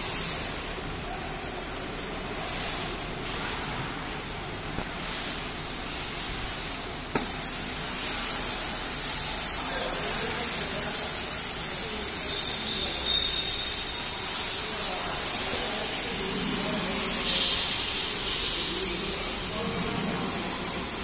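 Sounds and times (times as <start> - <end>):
laser cutter air hiss: 0.0 - 21.0.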